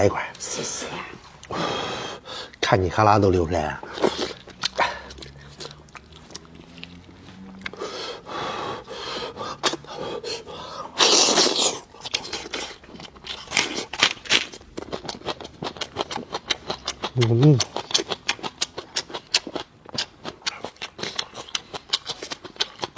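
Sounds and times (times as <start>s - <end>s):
chewing and crunching meat: 2.2s - 22.9s.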